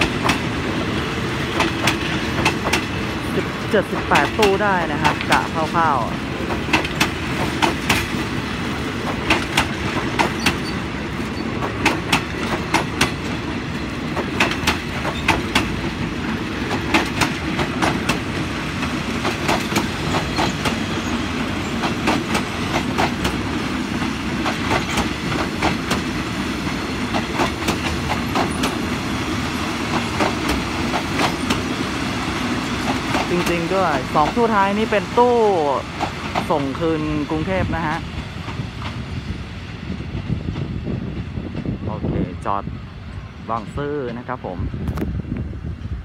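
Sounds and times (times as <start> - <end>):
wheels clicking over rail joints: 0.0 - 37.0
train rumble: 0.0 - 46.0.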